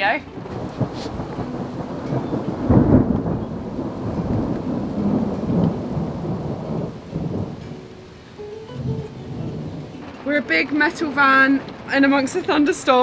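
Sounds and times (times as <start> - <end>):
heavy rain on a vehicle roof: 0.0 - 13.0
thunder rumbling: 0.0 - 13.0.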